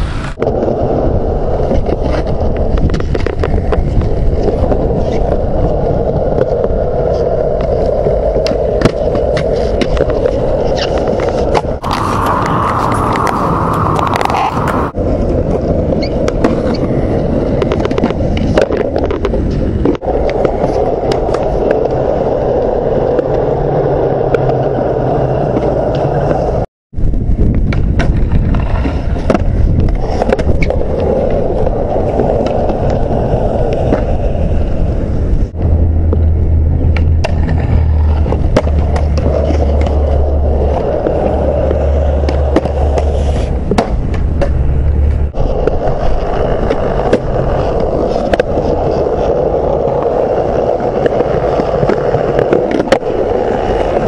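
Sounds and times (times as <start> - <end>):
skateboard wheels rolling on concrete: 0.0 - 54.0
skateboard tail clacks: 0.4 - 26.6, 27.4 - 54.0.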